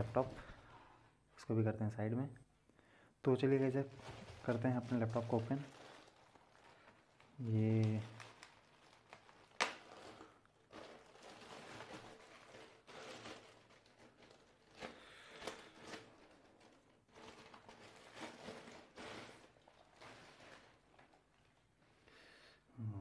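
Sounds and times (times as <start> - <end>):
plastic bag crinkling: 3.4 - 21.9.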